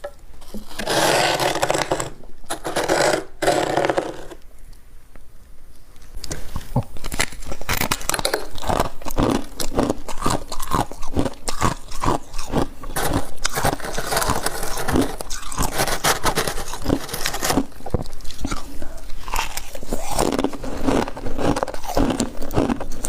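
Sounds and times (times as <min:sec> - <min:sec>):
ice being chewed crunching: 0:00.4 - 0:04.4, 0:06.0 - 0:23.0.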